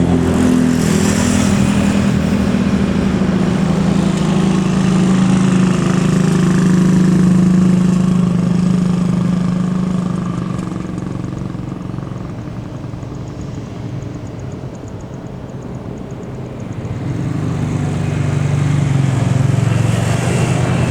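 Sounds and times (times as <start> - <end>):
jet engines droning: 0.0 - 20.9.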